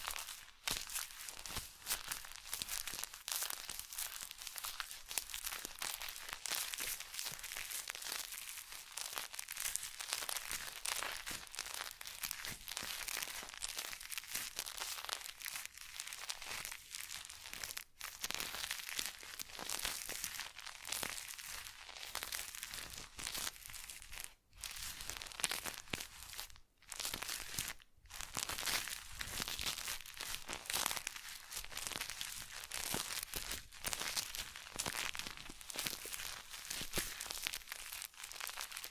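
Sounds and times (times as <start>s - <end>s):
crinkling scratchy rustle: 0.0s - 38.9s.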